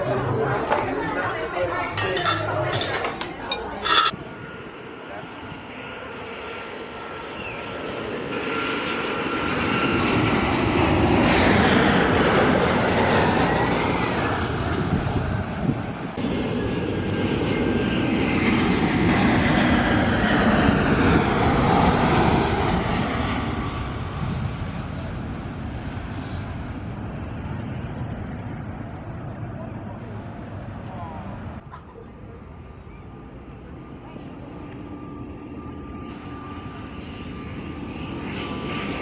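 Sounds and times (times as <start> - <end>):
jet airliner passing overhead: 0.0 - 39.0.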